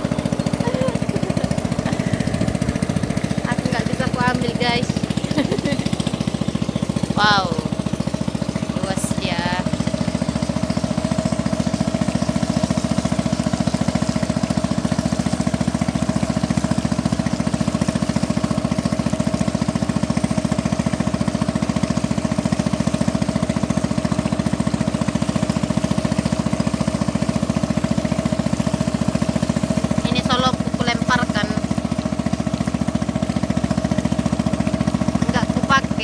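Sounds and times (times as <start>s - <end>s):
boat engine putter: 0.0s - 36.0s.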